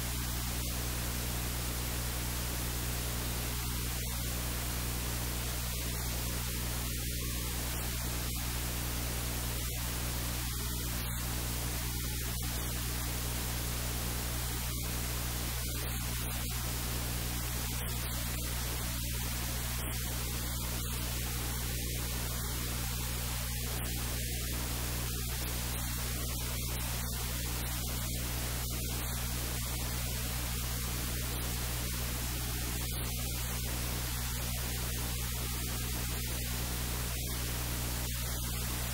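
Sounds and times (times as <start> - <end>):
low electrical hum: 0.0 - 38.9
static hiss: 0.0 - 38.9.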